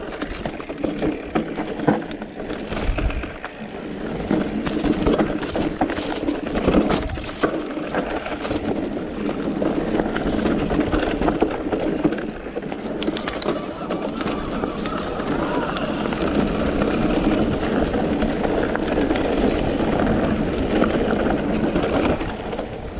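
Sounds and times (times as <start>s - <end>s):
bike clicks and rattles: 0.0s - 22.9s
tyres rolling on dirt: 0.0s - 22.9s
wind: 0.0s - 22.9s.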